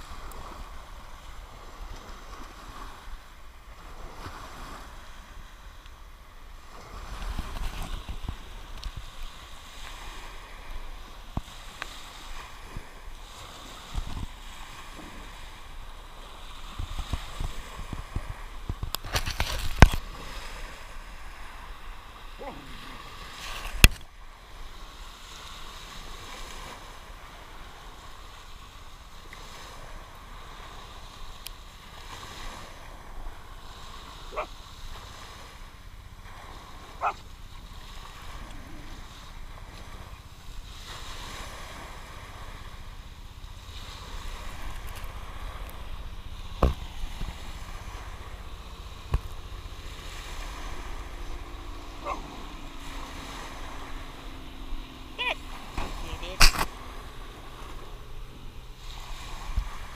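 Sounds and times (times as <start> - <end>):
small waves washing on beach: 0.0 - 59.9
wind on microphone: 0.0 - 59.9.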